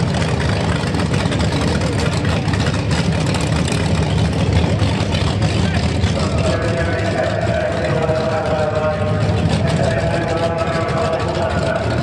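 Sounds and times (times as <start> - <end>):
race car engines idling: 0.0 - 12.0.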